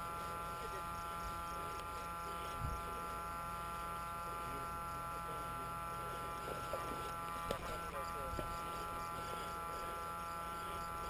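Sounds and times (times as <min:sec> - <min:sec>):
electrical buzz: 0:00.0 - 0:11.0.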